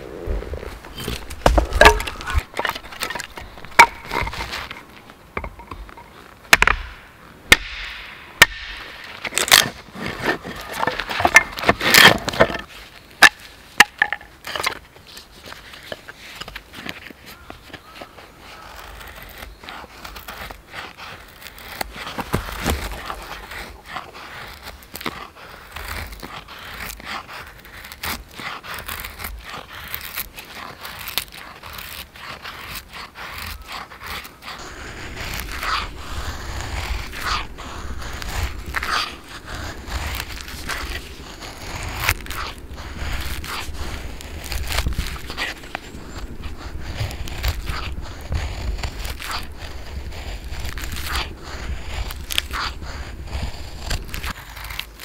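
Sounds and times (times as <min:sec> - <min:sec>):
knife scraping wooden stick: 0:00.0 - 0:55.0.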